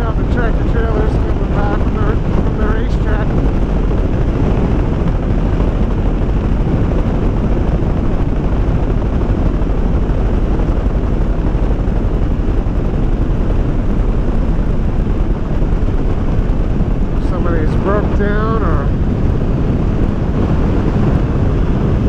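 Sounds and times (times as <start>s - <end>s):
wind rush over microphone: 0.0s - 22.0s.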